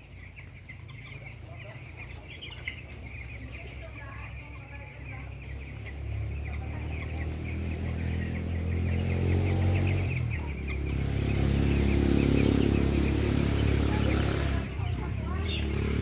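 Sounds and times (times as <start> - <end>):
chickens peeping: 0.0 - 16.0
engine hum: 0.0 - 16.0.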